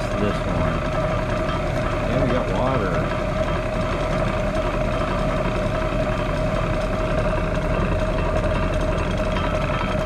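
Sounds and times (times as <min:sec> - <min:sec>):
grinding machine motor hum: 0:00.0 - 0:10.0.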